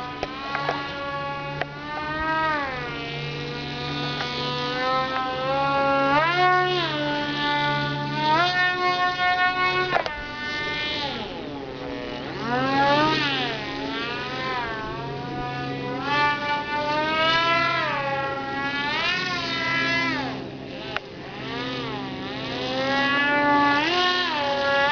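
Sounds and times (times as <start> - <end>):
model plane motor whining: 0.0 - 24.9.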